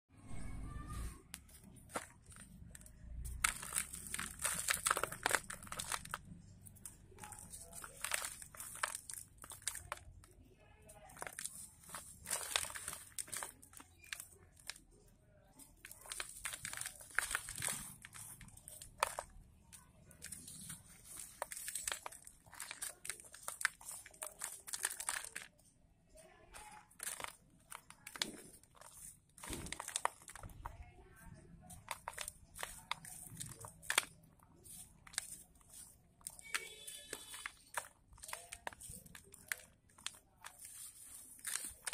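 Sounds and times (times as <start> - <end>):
soil crunching and crackling: 0.9 - 25.6, 26.5 - 41.9.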